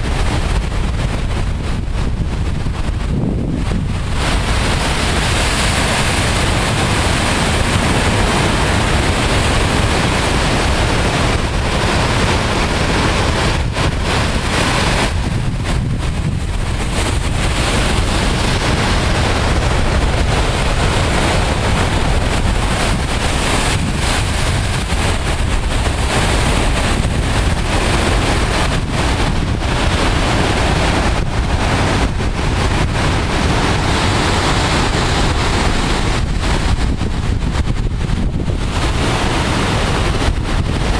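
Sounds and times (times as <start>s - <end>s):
surf crashing on rocks: 0.0s - 40.9s
wind buffeting microphone: 0.0s - 40.9s.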